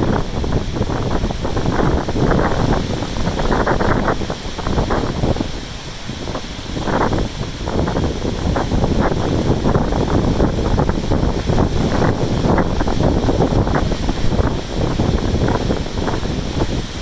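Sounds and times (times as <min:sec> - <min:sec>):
heavy surf breaking on rocks: 0:00.0 - 0:17.0
wind buffeting microphone: 0:00.0 - 0:17.0.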